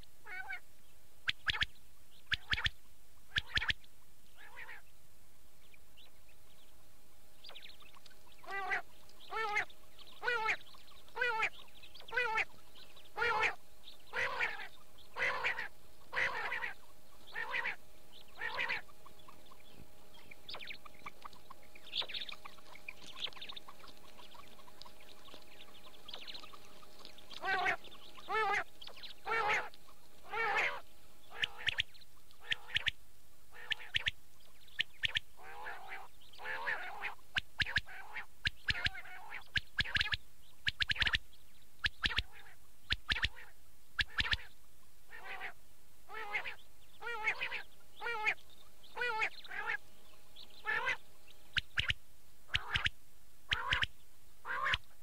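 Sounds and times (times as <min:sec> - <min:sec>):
faint steady hum: 0:00.0 - 0:55.0
quail warbling calls: 0:00.2 - 0:04.9, 0:07.4 - 0:55.0.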